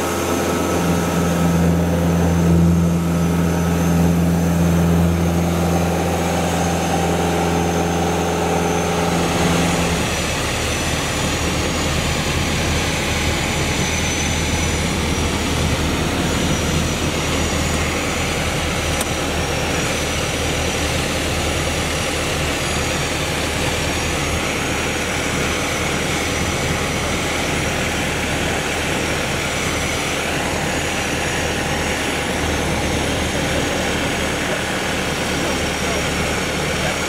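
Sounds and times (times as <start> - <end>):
propeller aircraft engine droning: 0.0 - 37.0.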